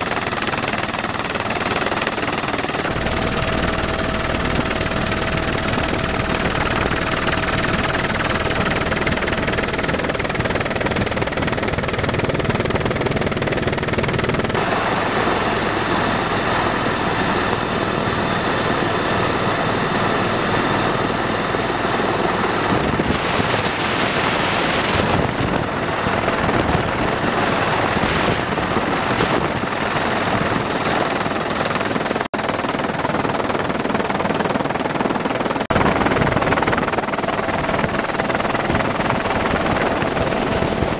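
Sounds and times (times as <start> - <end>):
helicopter rotor and engine noise: 0.0 - 40.9.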